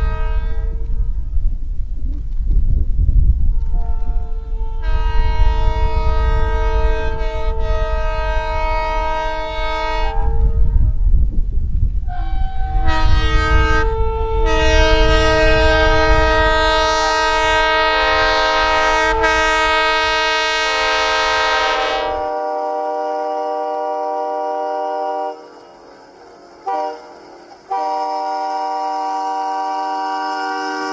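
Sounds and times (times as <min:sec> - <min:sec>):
train air horn chord: 0:00.0 - 0:01.1, 0:03.7 - 0:11.0, 0:12.1 - 0:30.9
low rumble of running train: 0:00.0 - 0:30.9.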